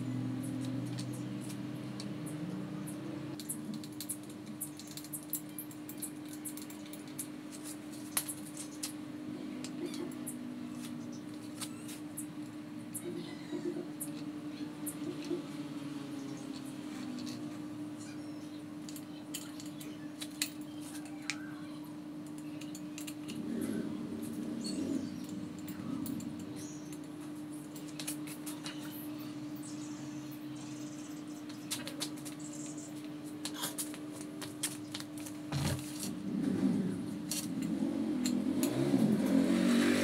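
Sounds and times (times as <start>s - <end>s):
steady hum: 0.0s - 39.6s.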